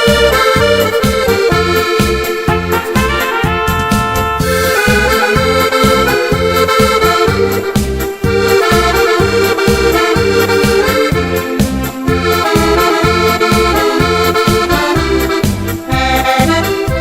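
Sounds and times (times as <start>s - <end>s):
instrumental music with bass beat: 0.0s - 17.0s.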